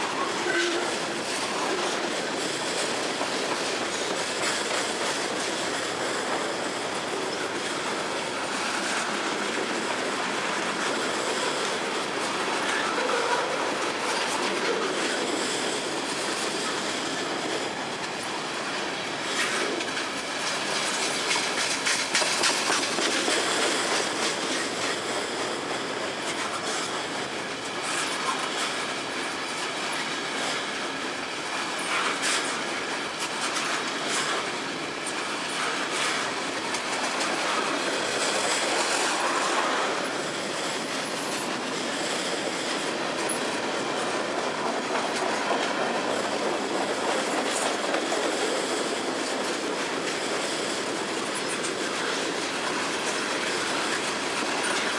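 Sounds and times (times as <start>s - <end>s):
steel wheels on rail: 0.0s - 54.9s
wheels clacking over rail joints: 0.0s - 54.9s.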